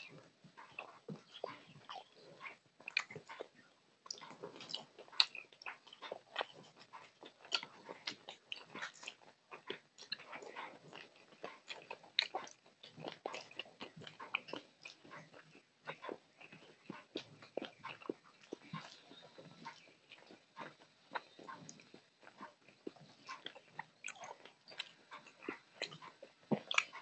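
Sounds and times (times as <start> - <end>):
chewing and wet mouth smacks: 0.0 - 27.0.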